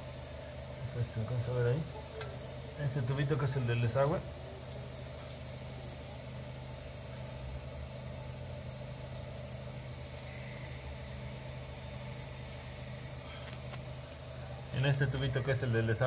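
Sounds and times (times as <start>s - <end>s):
refrigerator compressor hum: 0.0s - 16.0s.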